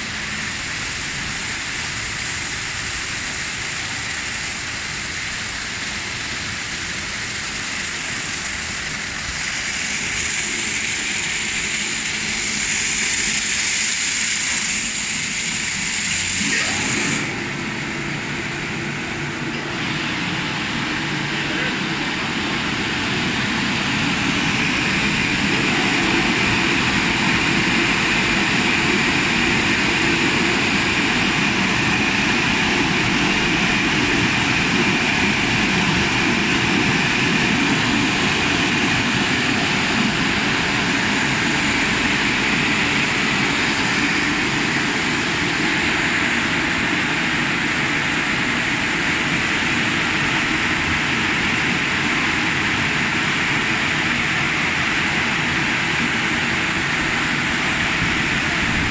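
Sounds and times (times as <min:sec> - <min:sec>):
car wash blowers rushing air: 0:00.0 - 0:58.9.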